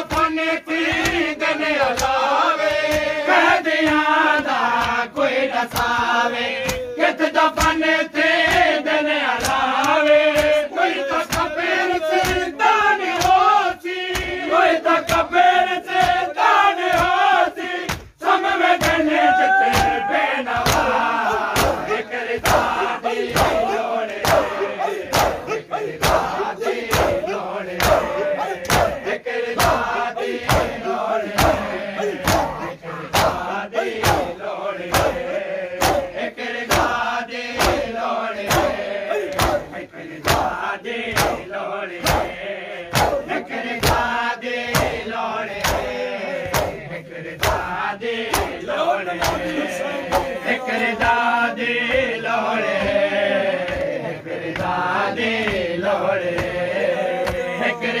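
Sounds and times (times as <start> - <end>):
hands slapping chests: 0.0 - 48.6, 49.2 - 51.2, 51.9 - 55.7, 56.3 - 56.6, 57.2 - 57.6
men chanting in unison: 0.0 - 58.0.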